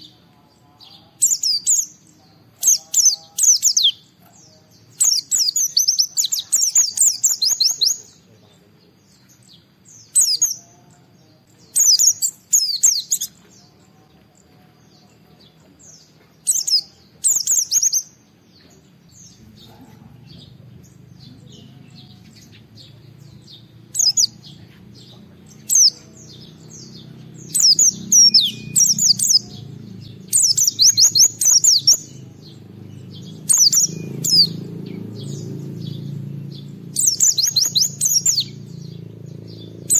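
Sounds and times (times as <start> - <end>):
bird singing fast chirps: 0.0 - 39.9
faint low hum: 0.0 - 39.9.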